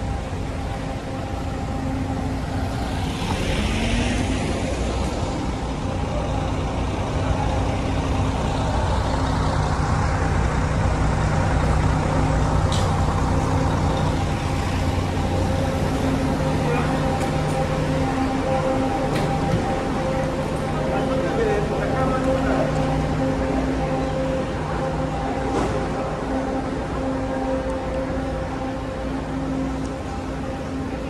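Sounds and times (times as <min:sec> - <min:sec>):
bus engine idling: 0:00.0 - 0:31.0
van engine pulling away: 0:00.0 - 0:31.0.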